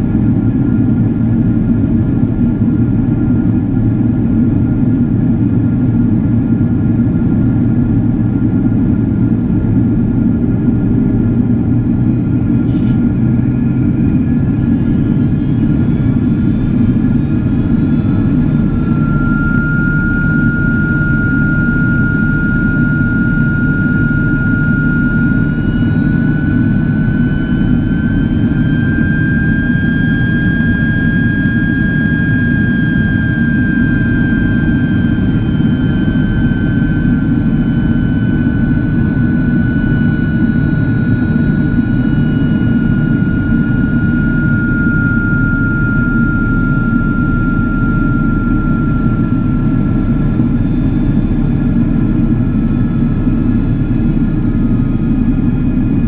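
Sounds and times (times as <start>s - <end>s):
high turbofan whine: 0.0s - 56.0s.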